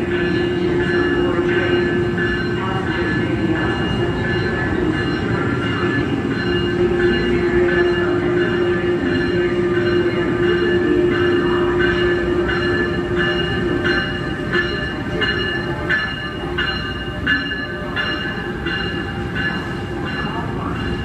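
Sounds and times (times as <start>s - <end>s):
electric locomotive hum: 0.0s - 21.0s.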